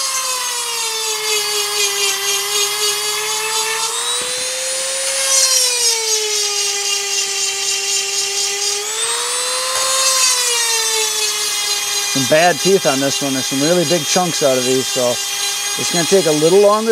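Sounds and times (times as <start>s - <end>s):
grinding hiss: 0.0s - 16.9s
rotary tool whining: 0.0s - 16.9s.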